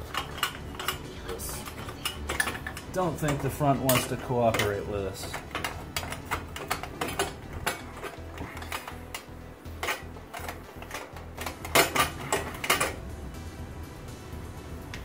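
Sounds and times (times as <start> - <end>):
metal exhaust pipe clinking: 0.0 - 13.0.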